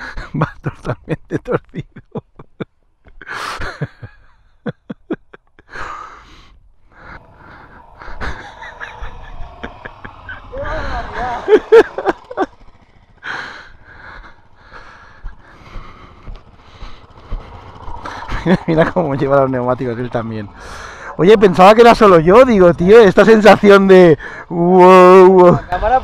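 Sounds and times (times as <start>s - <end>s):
man laughing and gasping: 0.0s - 21.4s
dirt bike engines running: 0.0s - 26.0s.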